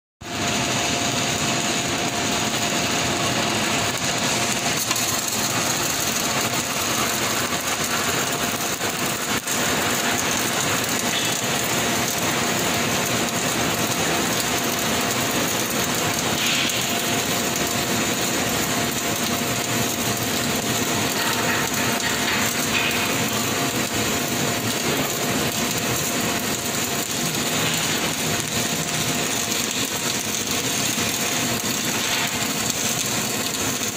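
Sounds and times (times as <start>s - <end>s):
welding arc hissing: 0.2s - 33.9s.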